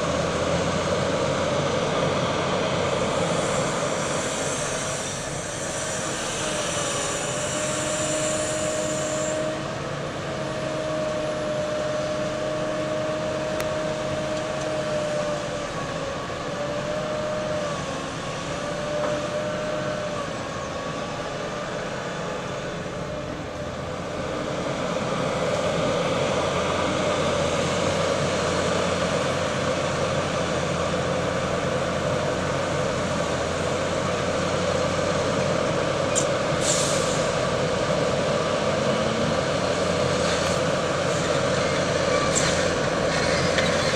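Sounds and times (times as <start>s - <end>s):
heavy construction machinery running: 0.0s - 43.9s.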